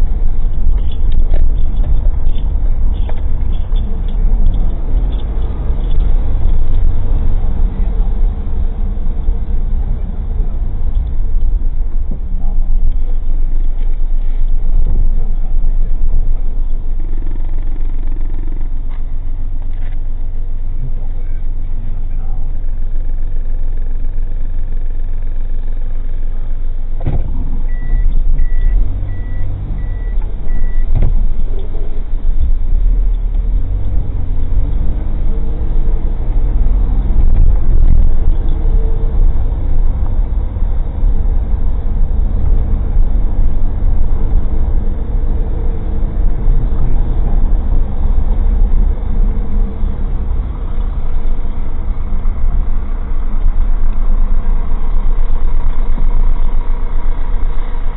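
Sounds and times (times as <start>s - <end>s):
car engine and road rumble: 0.0s - 57.9s.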